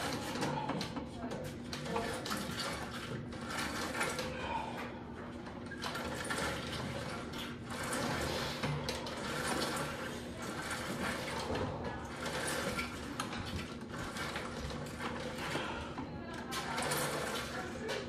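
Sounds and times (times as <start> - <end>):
gym cable whirring over pulleys: 0.0 - 18.0.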